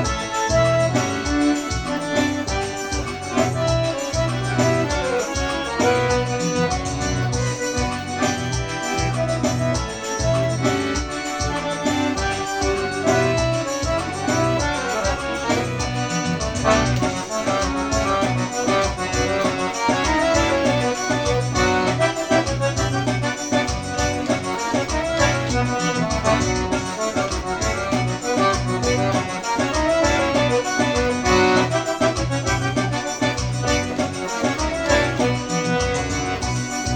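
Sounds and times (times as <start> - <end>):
lively accordion tune: 0.0 - 36.9
steady bass beat: 0.0 - 36.9.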